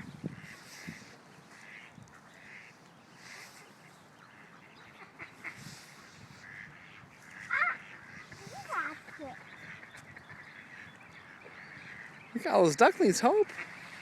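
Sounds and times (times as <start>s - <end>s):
ducks quacking faintly: 0.0s - 14.0s.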